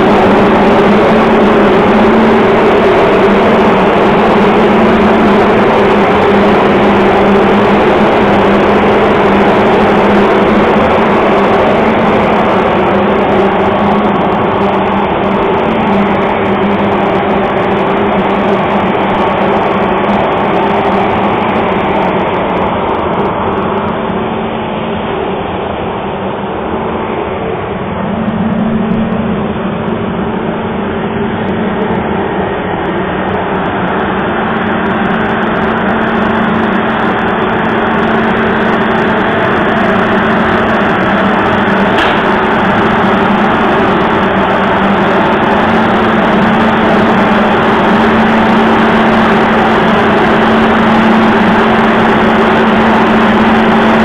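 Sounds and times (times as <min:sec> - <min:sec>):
fans rushing air: 0:00.0 - 0:54.0
low hum: 0:00.0 - 0:54.0.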